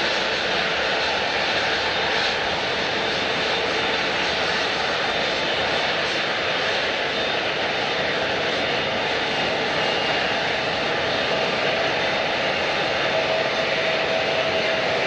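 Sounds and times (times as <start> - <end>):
airliner engines rushing: 0.0 - 15.0
thin steady engine whine: 0.0 - 15.0.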